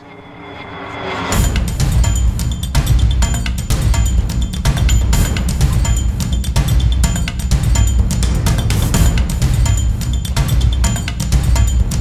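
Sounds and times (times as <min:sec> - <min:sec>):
music with drums and deep bass: 0:01.3 - 0:12.0.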